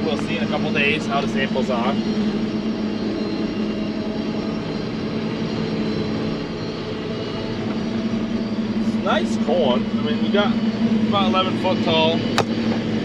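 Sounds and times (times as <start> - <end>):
forage harvester machinery drone: 0.0 - 13.0.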